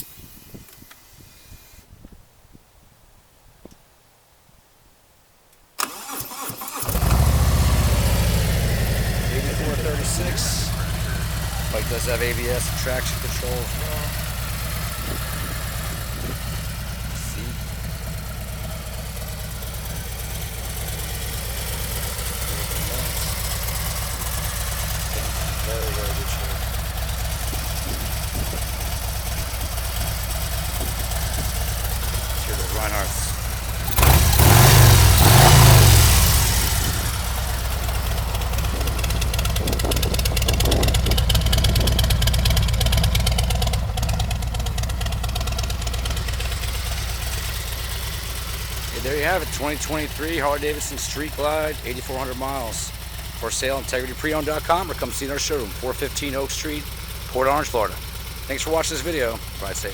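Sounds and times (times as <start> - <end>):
motorcycle engine idling: 5.9 - 59.9.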